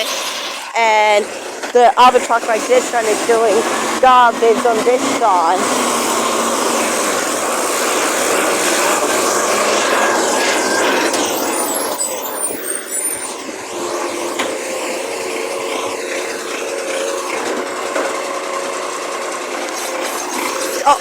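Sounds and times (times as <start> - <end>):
motor vehicle running: 0.0 - 21.0.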